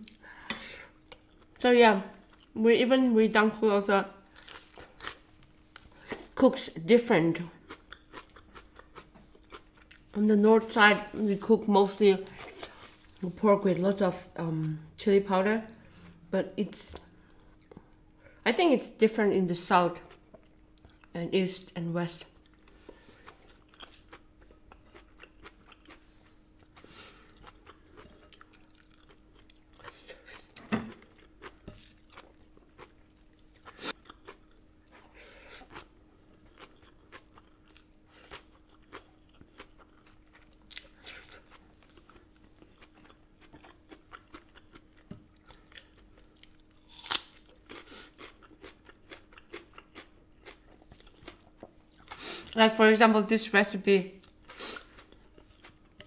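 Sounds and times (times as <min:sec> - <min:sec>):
chewing and crunching food: 0:00.0 - 0:02.6, 0:04.2 - 0:10.7, 0:17.0 - 0:18.4, 0:19.9 - 0:52.8, 0:54.1 - 0:56.0.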